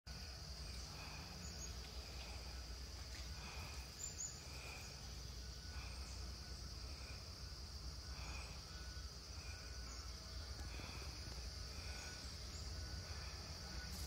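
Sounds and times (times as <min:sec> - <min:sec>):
high insect drone: 0:00.1 - 0:14.0.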